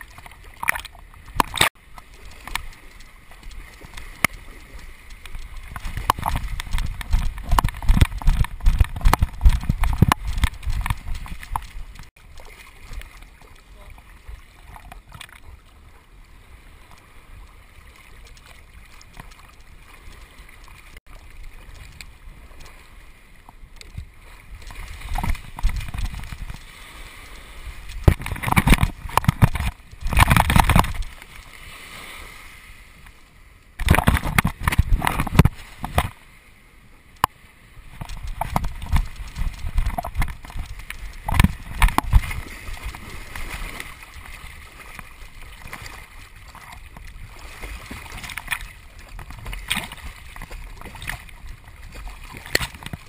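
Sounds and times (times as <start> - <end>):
water splashing and sloshing: 0.0 - 53.0.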